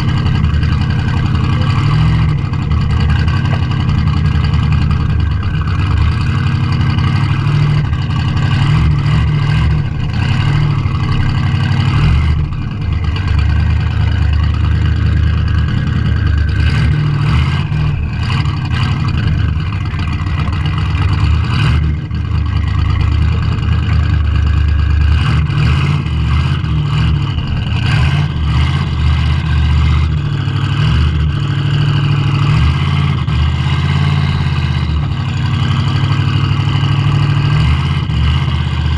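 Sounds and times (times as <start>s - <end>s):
car engine running hard: 0.0s - 38.9s.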